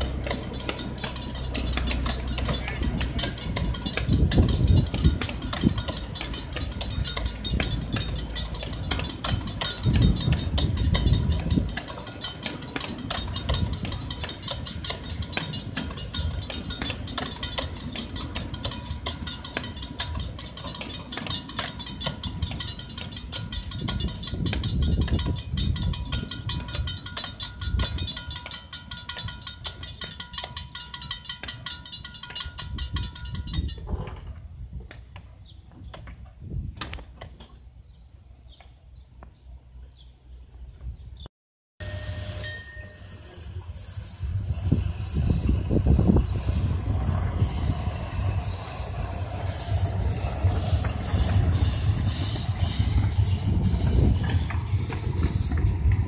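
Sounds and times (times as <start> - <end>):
train coaches rumbling past: 0.0 - 34.7, 41.8 - 56.0.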